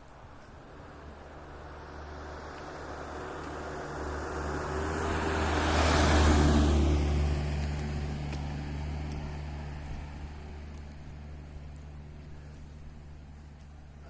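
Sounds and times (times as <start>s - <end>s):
car driving past: 0.6s - 12.2s.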